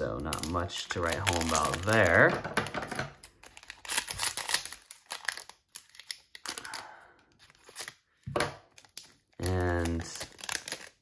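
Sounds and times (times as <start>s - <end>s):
wrapper crackling: 0.0s - 2.4s, 3.1s - 11.0s.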